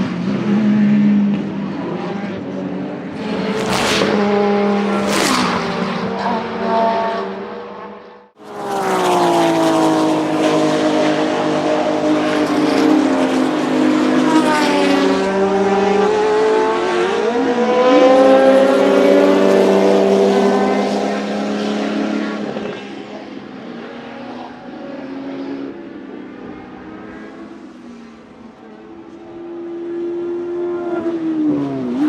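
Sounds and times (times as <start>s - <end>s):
racing car engine passing: 0.2s - 32.0s.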